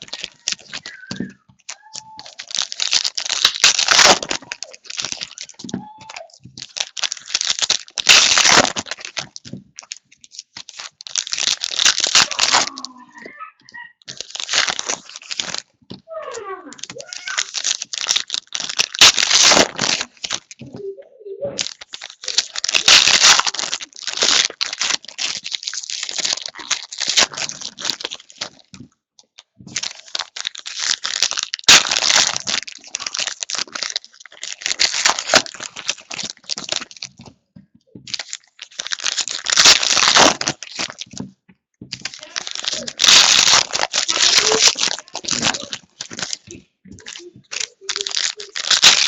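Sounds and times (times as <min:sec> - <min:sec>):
plastic wrappers tearing and crinkling: 0:00.0 - 0:13.4, 0:14.1 - 0:16.0, 0:16.7 - 0:20.7, 0:21.6 - 0:37.3, 0:38.1 - 0:41.3, 0:41.9 - 0:49.0.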